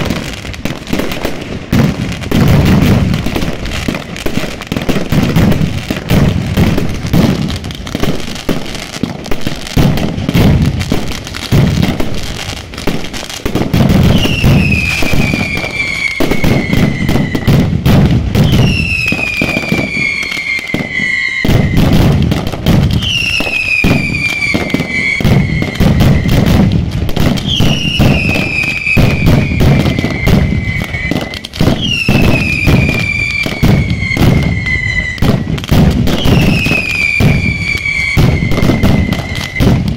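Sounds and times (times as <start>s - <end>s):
firecracker cracks and booms: 0.0s - 39.9s
long falling firework whistle: 0.0s - 39.9s.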